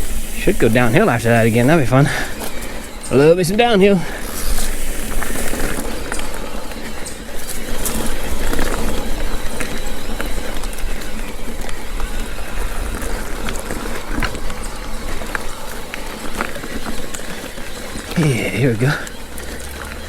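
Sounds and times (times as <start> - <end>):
bike clicks and rattles: 0.0 - 20.0
bike tyres on dirt trail: 0.0 - 20.0.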